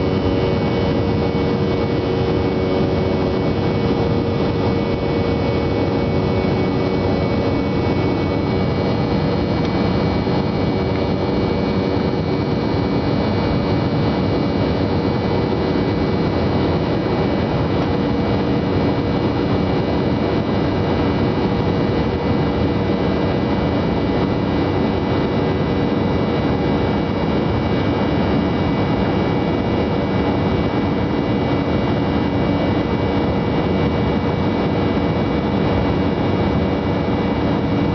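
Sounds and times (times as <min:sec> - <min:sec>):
airplane engines droning: 0:00.0 - 0:37.9.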